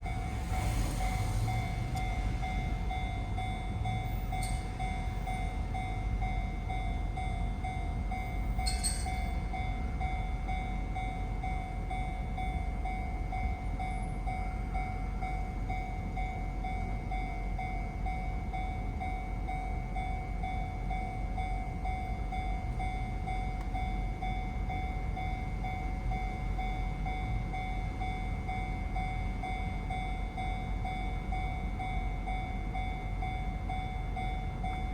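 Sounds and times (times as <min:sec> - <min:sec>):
electric train rumbling past: 0:00.0 - 0:34.9
level-crossing alarm ringing: 0:00.0 - 0:34.9.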